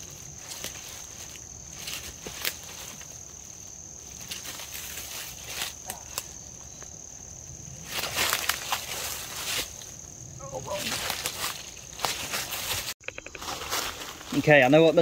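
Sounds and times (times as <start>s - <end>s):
crackles and rustles in dry leaves: 0.0s - 15.0s.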